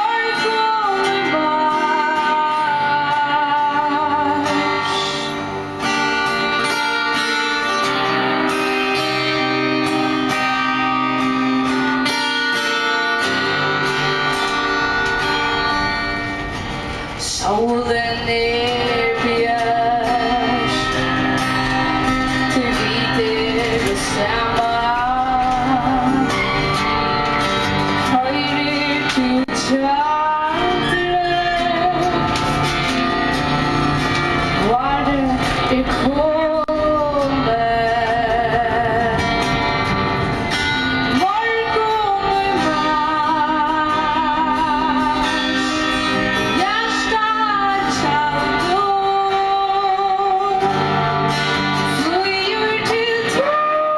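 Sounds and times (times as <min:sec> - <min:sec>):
woman singing: 0:00.0 - 0:16.1, 0:17.2 - 0:27.2, 0:27.8 - 0:32.8, 0:34.4 - 0:39.6, 0:41.0 - 0:53.9
strummed acoustic guitar: 0:00.0 - 0:53.9.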